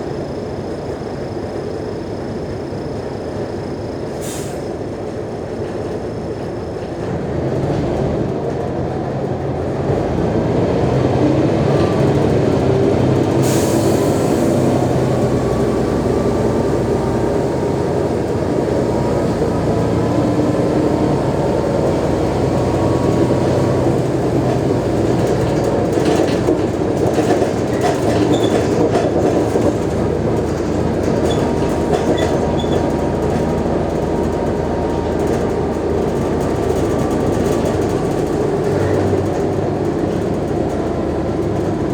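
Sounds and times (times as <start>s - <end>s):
bus diesel engine under load: 0.0s - 41.9s.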